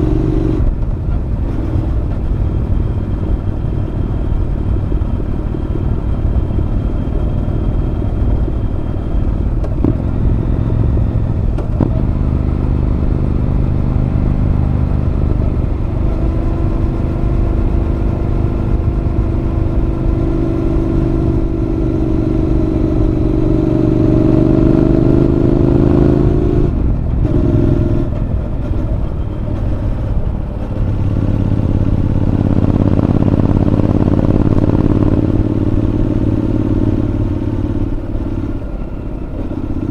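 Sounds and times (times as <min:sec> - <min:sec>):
motorcycle engine exhaust: 0:00.0 - 0:39.9.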